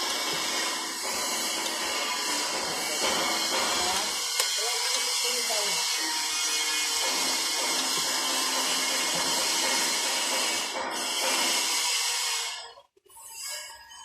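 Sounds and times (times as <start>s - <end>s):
machine hissing whir: 0.0s - 12.6s.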